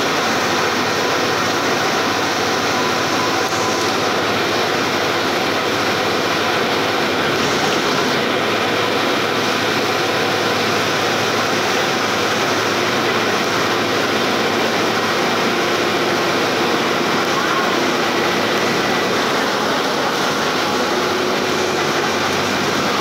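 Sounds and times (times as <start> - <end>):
bus engine drone: 0.0 - 23.0
tyre noise on wet road: 0.0 - 23.0.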